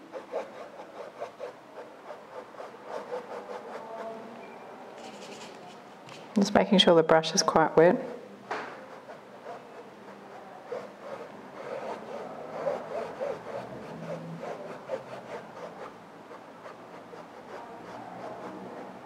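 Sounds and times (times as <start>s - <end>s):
paintbrush rubbing on canvas: 0.0s - 4.3s, 5.0s - 6.4s, 8.8s - 19.0s.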